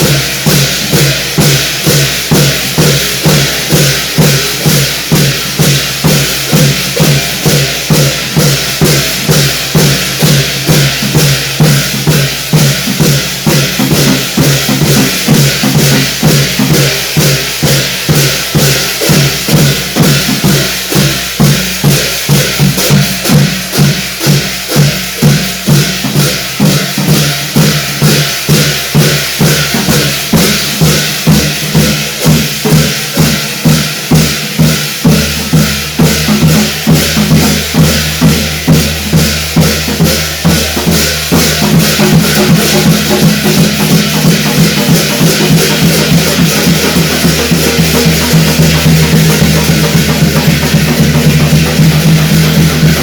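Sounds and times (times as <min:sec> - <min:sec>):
cymbals crashing: 0:00.0 - 0:53.0
drum beating fast rhythm: 0:00.0 - 0:53.0.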